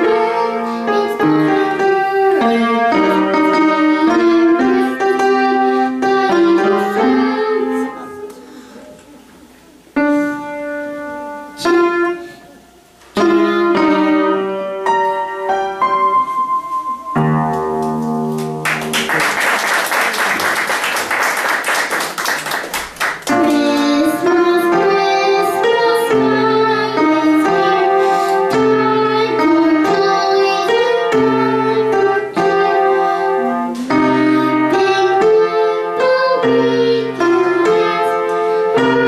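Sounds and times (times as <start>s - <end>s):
upright piano playing: 0.0s - 8.7s, 9.9s - 20.8s, 22.8s - 39.0s.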